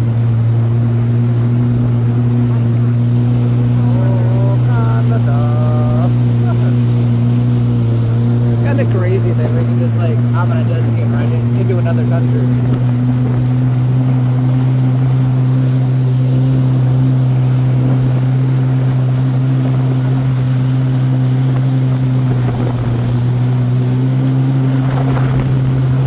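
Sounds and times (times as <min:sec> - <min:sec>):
water rushing along hull: 0:00.0 - 0:26.0
watercraft engine running: 0:00.0 - 0:26.0.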